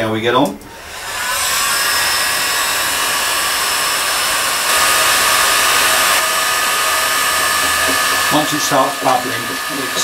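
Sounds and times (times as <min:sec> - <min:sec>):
heat gun blowing air: 0:00.7 - 0:10.0.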